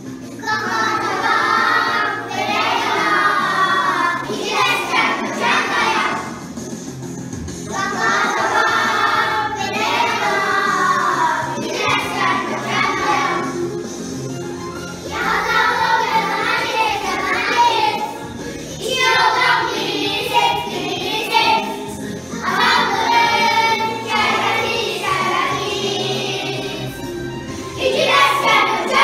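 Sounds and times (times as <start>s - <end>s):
children singing together: 0.0s - 6.6s, 7.5s - 13.8s, 15.0s - 29.0s
instrumental backing music: 0.0s - 29.0s.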